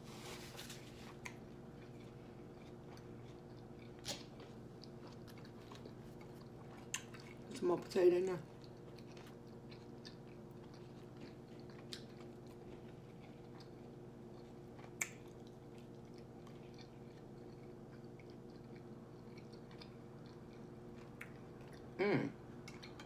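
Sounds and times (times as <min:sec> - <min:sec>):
steady low hum: 0:00.0 - 0:23.0
person chewing soft food: 0:00.1 - 0:23.0.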